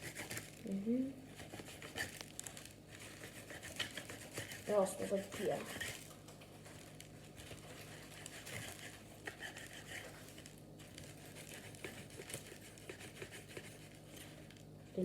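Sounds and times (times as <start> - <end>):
steady low hum: 0.0 - 15.0
ingredients crinkling by hand: 0.2 - 14.8.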